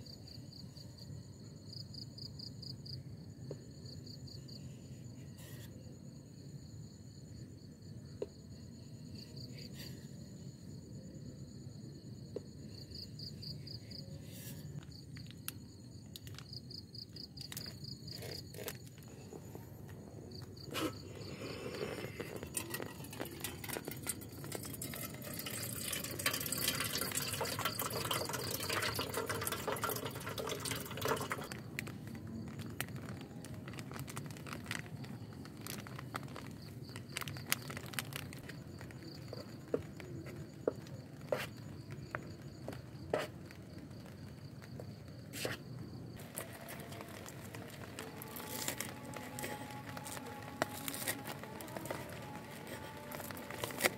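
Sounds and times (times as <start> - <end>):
crickets chirping: 0.0 - 53.9.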